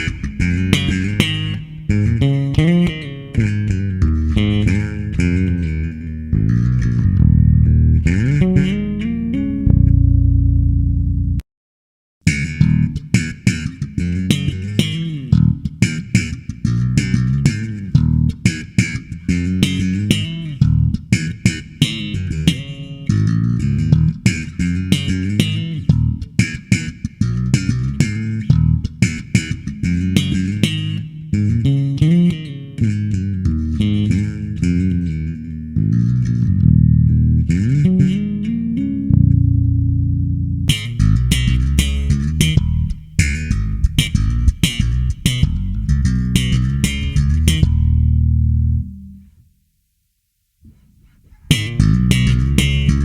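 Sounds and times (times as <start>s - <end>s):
electric bass picked notes: 0.0s - 11.4s, 12.2s - 49.3s, 50.7s - 53.0s.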